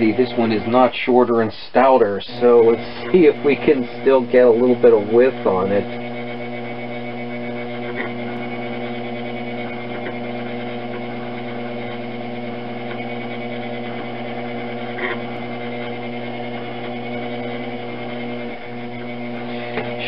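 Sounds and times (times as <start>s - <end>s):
potter's wheel humming: 0.0s - 20.0s.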